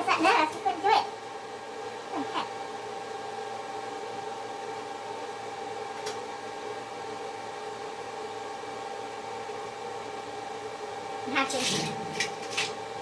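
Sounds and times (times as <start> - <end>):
mechanical hum with held tones: 0.0 - 13.0.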